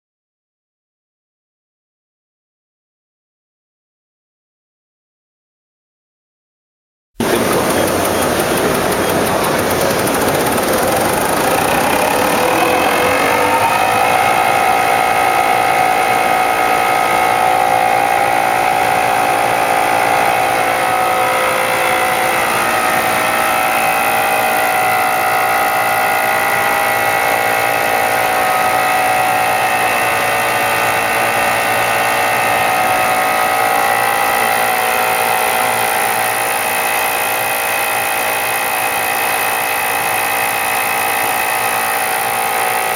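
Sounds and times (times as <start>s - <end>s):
machine whine: 7.2s - 42.9s.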